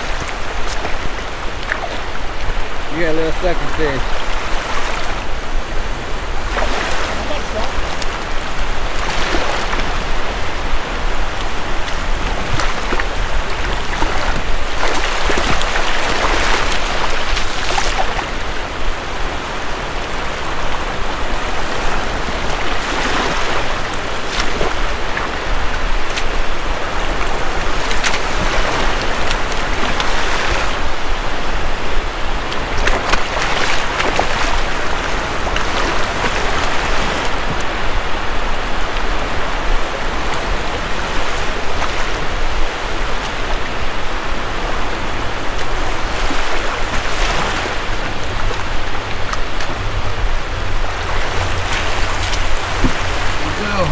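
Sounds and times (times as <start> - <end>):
surf washing on sandy beach: 0.0 - 53.9.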